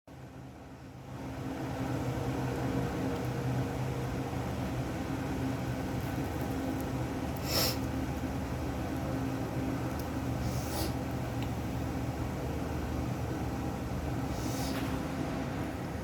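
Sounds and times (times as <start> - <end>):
low mechanical hum: 0.1 - 16.0.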